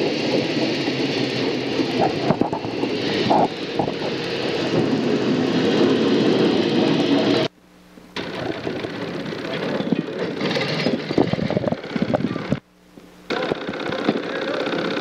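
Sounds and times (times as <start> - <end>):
railway equipment rattling: 0.0 - 7.5, 8.2 - 12.6, 13.3 - 15.0.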